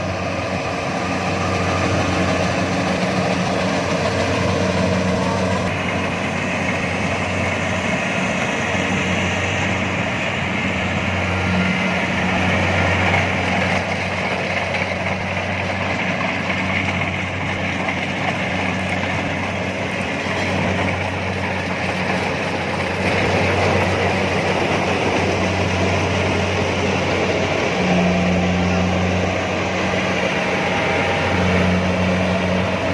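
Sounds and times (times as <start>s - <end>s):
combine harvester engine running: 0.0s - 32.9s.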